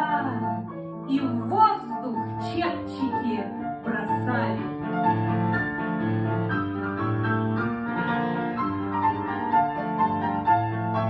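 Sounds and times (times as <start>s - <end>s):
classical piano playing: 0.0s - 11.0s.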